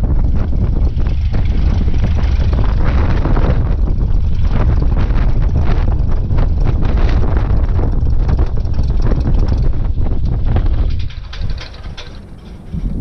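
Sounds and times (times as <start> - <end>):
airplane engine and propeller rumble: 0.0 - 13.0
wind buffeting microphone: 0.0 - 13.0.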